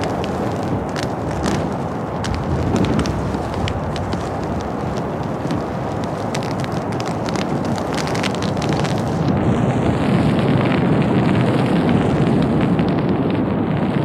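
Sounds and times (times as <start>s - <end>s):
fire crackling: 0.0s - 14.0s
grass fire flames rushing: 0.0s - 14.0s.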